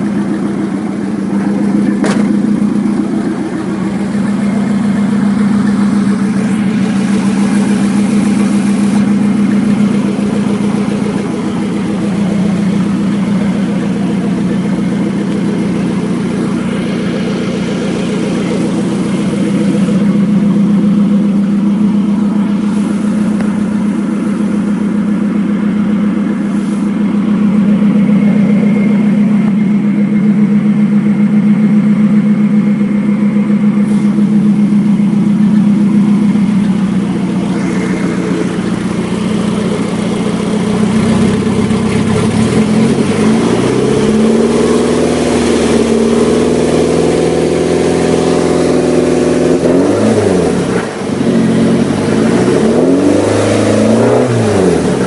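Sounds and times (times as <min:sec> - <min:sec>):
car engine idling: 0:00.0 - 0:55.0
car engine revving: 0:00.0 - 0:55.0.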